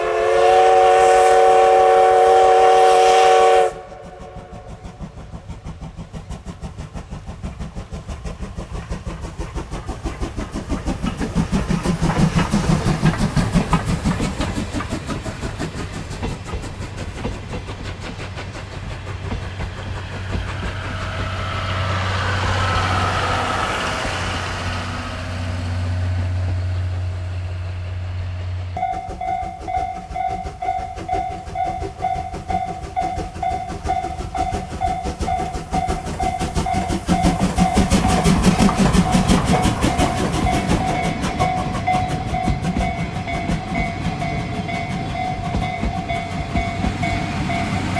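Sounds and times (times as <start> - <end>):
steam locomotive chuffing: 0.0 - 47.9.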